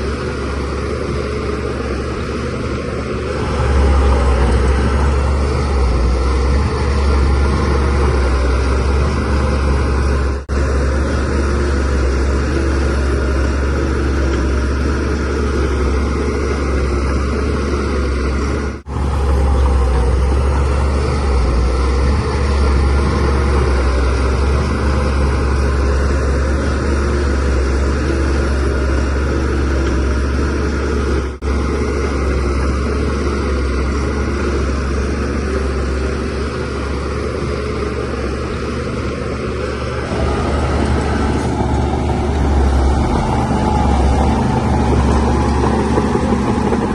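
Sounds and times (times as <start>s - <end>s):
bulldozer diesel engine rumbling: 0.0s - 46.9s.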